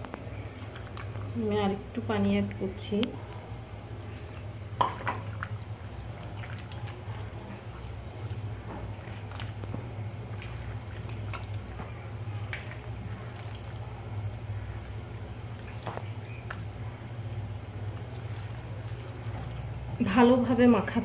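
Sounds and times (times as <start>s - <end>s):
hand squishing fish in wet batter: 0.0s - 21.0s
steady low hum: 0.0s - 21.0s.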